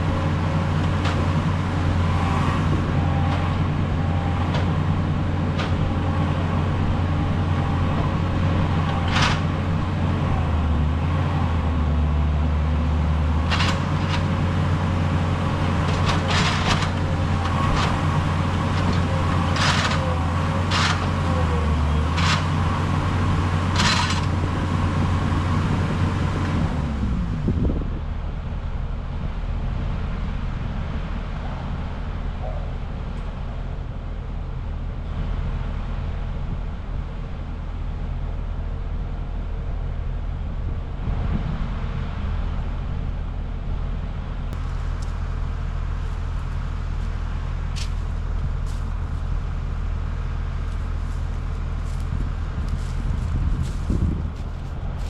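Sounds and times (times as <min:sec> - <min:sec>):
skid steer engine under load: 0:00.0 - 0:55.0.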